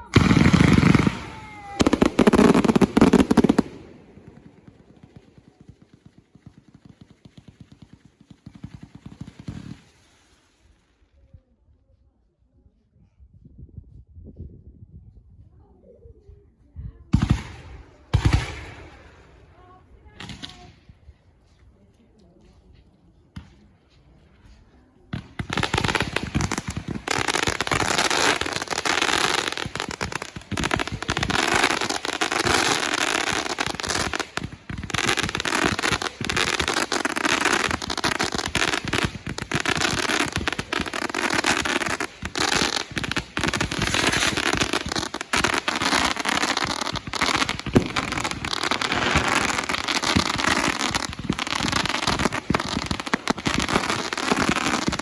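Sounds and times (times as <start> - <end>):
fireworks bangs and crackling: 0.0 - 10.8, 17.1 - 21.6, 23.3 - 55.0.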